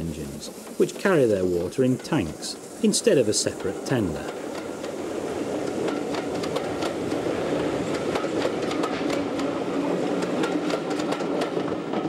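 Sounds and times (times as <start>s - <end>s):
train rolling past: 0.0s - 12.0s
wheels clicking over rail joints: 0.0s - 12.0s.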